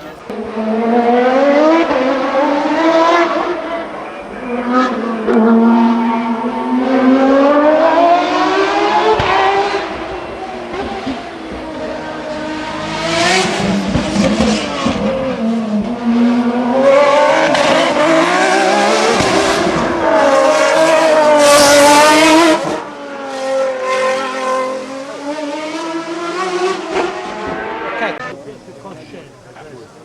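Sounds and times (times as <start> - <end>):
race car engine at high revs: 0.0 - 29.0.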